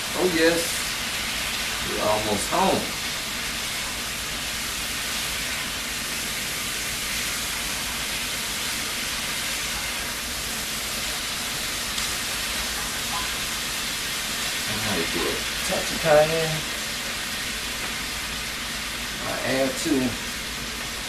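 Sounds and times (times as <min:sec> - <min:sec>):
meat frying with sizzling hiss: 0:00.0 - 0:21.0.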